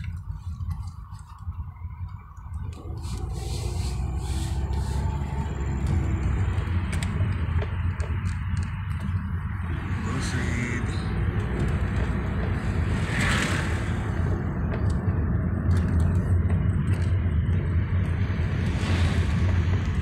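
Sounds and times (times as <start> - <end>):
engine and road drone: 0.0 - 20.0.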